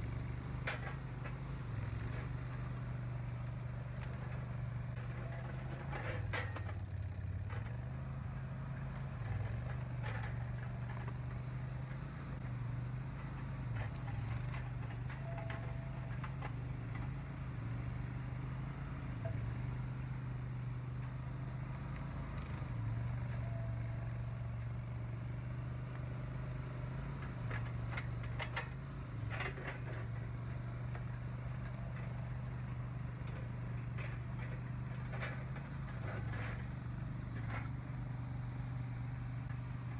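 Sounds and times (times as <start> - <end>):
skid steer engine running: 0.0 - 39.9
machine clanks and rattles: 0.2 - 39.9.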